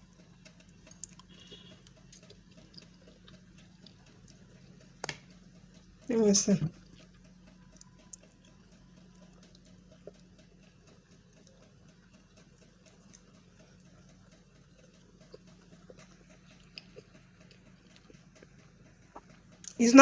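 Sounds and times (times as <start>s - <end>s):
faint ticks: 0.0s - 19.8s
faint low hum: 0.0s - 20.0s.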